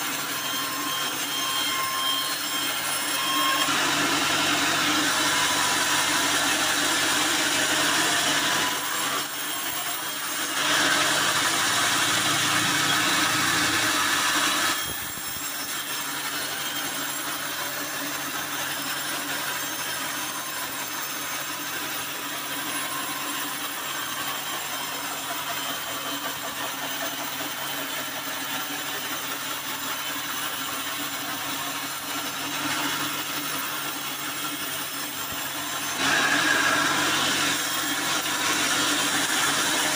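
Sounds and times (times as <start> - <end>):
band saw cutting wood: 0.0 - 39.9
sawmill running without load: 0.0 - 39.9.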